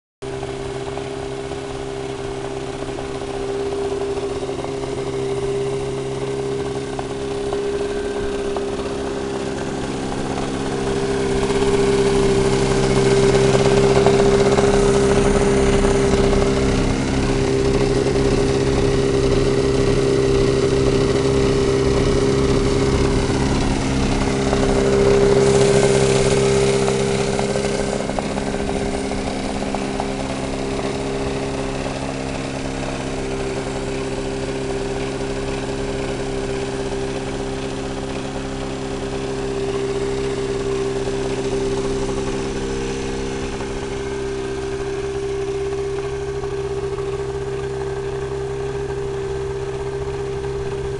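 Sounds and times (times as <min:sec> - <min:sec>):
two-stroke engine idling fast: 0:00.2 - 0:50.9.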